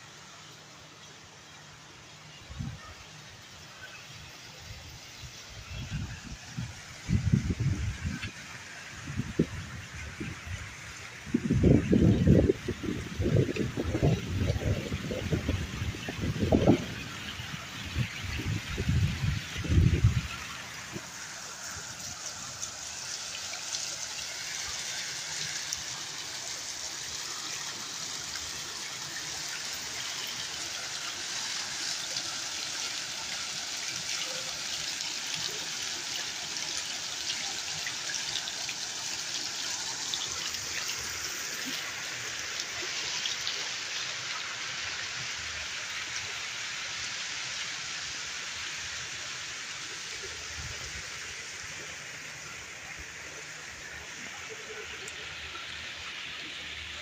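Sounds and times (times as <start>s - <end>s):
fountain jets splashing into pool: 0.0s - 57.0s.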